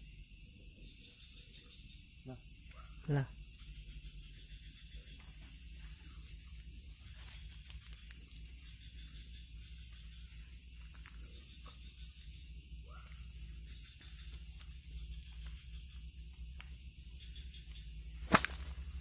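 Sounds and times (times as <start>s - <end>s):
night insects hissing: 0.0s - 19.0s.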